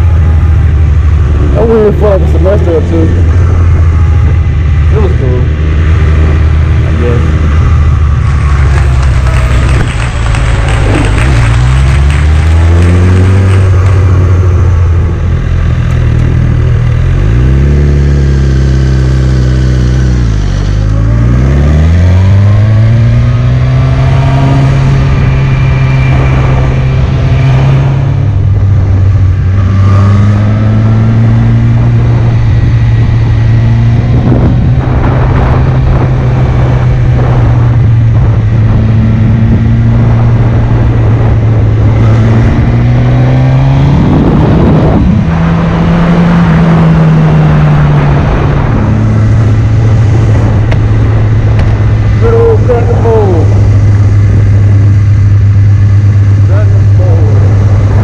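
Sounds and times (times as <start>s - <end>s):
motorcycle engine: 0.0s - 58.0s
wind and road noise: 0.0s - 58.0s.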